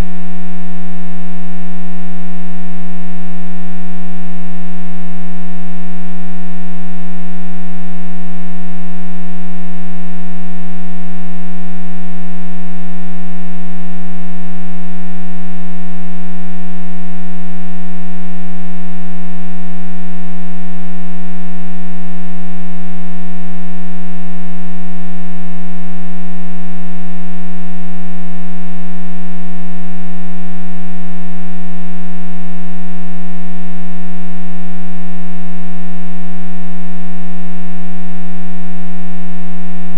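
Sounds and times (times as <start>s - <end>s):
loud steady buzzing hum: 0.0s - 39.9s.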